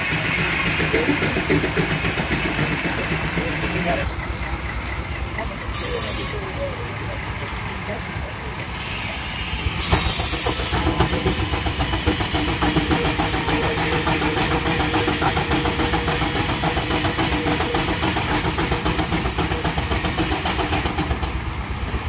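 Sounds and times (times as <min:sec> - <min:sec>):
steam engine running: 0:00.0 - 0:21.6.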